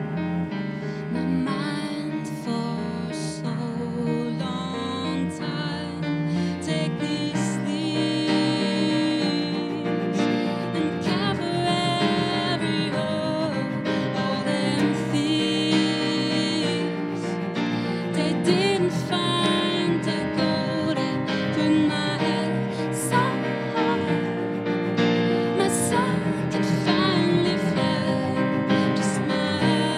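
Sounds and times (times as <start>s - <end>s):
bowed cello: 0.0s - 29.9s
digital piano: 0.0s - 29.9s
woman singing: 1.0s - 24.5s, 25.3s - 29.9s.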